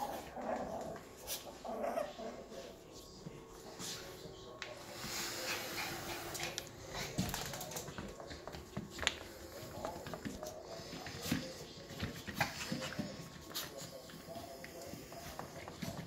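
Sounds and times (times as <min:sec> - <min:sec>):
puppies scuffling on floor pad: 0:00.0 - 0:16.0.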